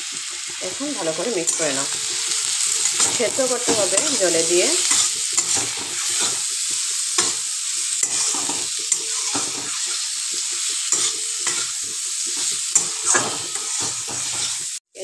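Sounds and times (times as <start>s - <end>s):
vegetables sizzling in oil: 0.0s - 15.0s
metal spatula scraping: 0.2s - 14.8s.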